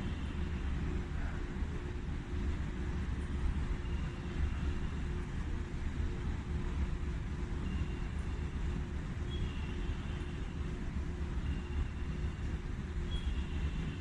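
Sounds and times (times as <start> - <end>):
distant traffic: 0.0 - 14.0
faint hum: 0.0 - 14.0
low station rumble: 0.0 - 14.0.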